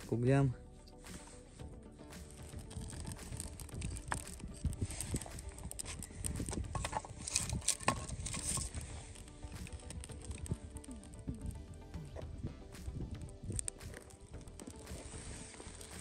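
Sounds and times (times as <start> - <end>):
campfire wood knocking and clattering: 2.1 - 16.0
sharp clicks: 2.1 - 16.0.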